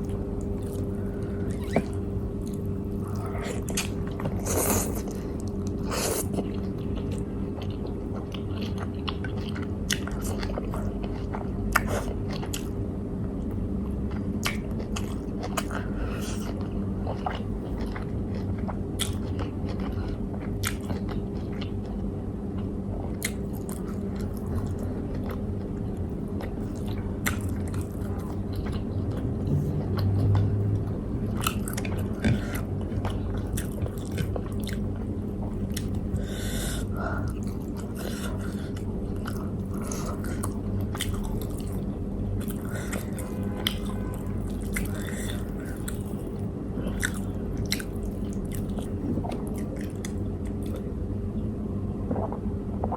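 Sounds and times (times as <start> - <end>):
person chewing food: 0.0 - 12.8, 14.1 - 22.0, 22.6 - 50.9
steady low hum: 0.0 - 52.9.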